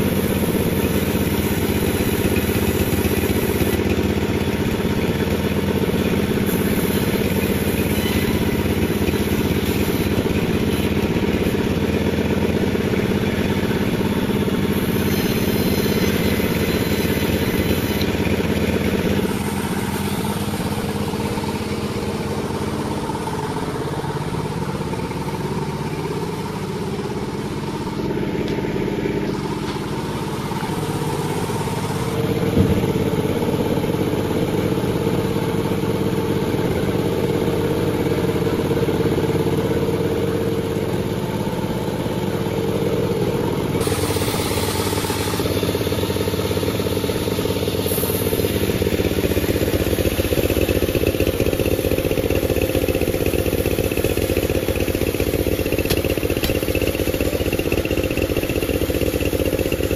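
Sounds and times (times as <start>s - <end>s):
sawmill droning: 0.0s - 59.9s.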